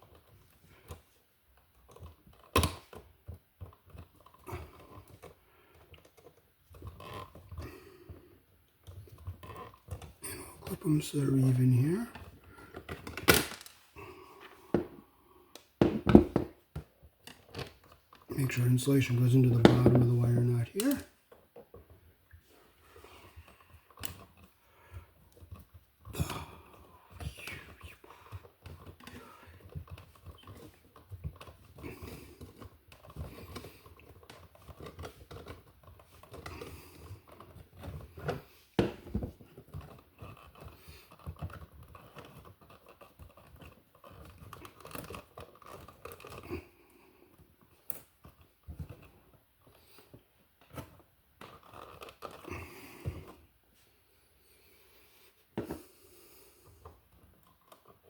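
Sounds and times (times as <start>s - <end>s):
hands working copper wiring: 0.0s - 58.0s.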